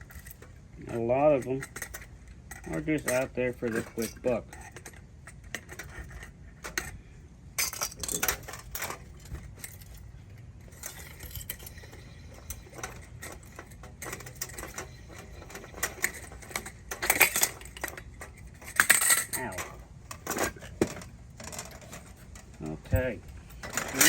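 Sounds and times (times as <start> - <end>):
small metal parts clinking: 0.0 - 24.0.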